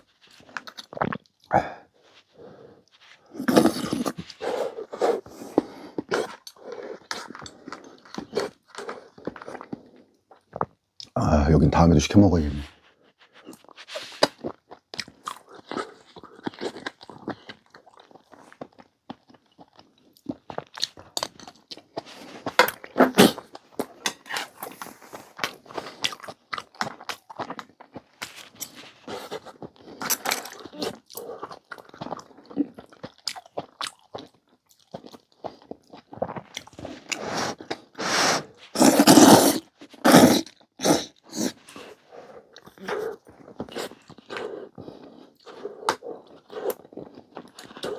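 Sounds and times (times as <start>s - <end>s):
person chewing food: 0.0s - 11.2s, 12.9s - 47.9s.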